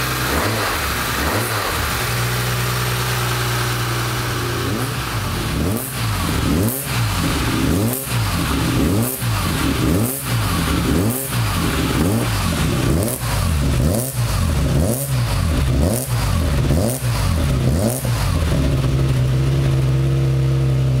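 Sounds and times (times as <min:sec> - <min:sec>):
car engine idling: 0:00.0 - 0:21.0
car engine revving: 0:00.0 - 0:21.0.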